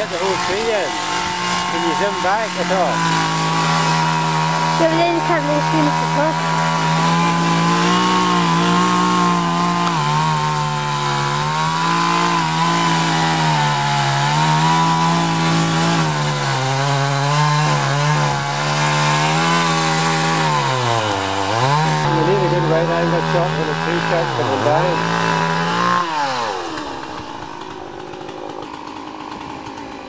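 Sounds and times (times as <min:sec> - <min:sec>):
chainsaw cutting tree trunk: 0:00.0 - 0:30.0.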